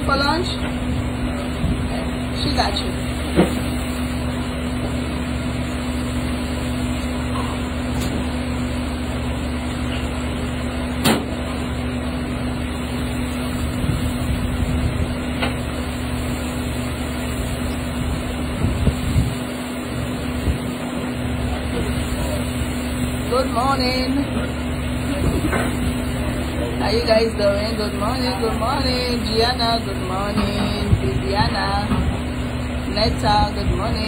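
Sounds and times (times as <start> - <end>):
kitchen ventilation fan humming: 0.0 - 34.0.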